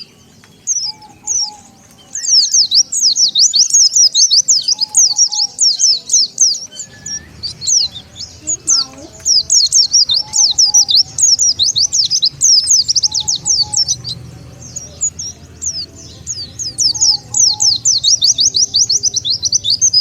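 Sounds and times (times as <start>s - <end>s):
bird chirping song: 0.0s - 20.0s.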